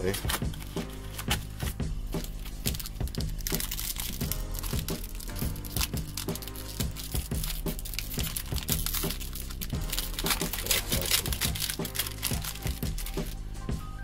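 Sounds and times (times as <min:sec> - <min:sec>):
foil wrapper crinkling and tearing: 0:00.0 - 0:13.5
background music: 0:00.0 - 0:14.0.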